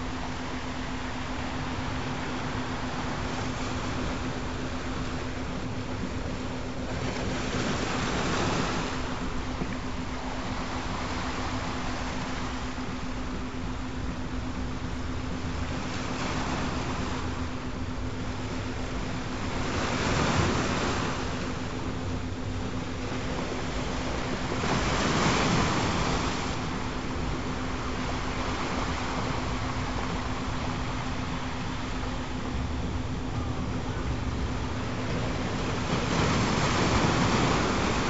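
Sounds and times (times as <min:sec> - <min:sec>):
ocean waves breaking: 0:00.0 - 0:38.0
steady low tone: 0:00.0 - 0:38.0.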